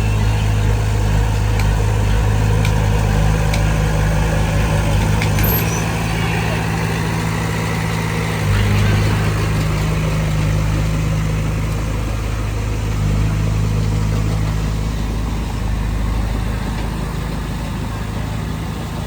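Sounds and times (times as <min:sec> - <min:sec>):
diesel engine running at low revs: 0:00.0 - 0:19.0.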